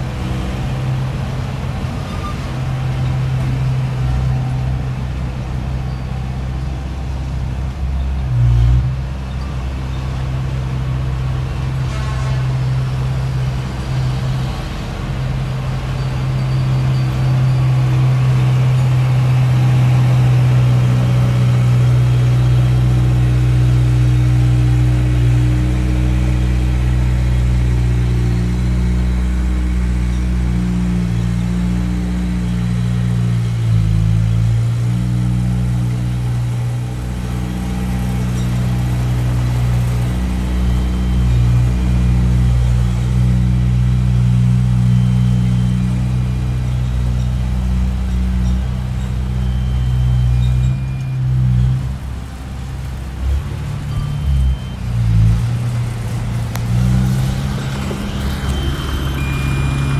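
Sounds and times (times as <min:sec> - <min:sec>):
dump truck engine running: 0:00.0 - 0:11.8, 0:12.4 - 0:59.9
bulldozer diesel engine under load: 0:00.0 - 0:59.9.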